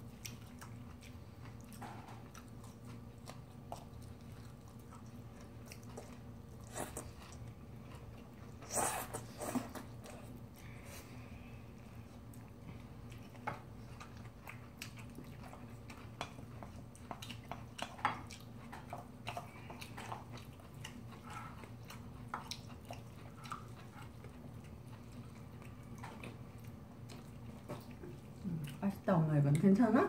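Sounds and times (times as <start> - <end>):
people chewing food: 0.0 - 30.0.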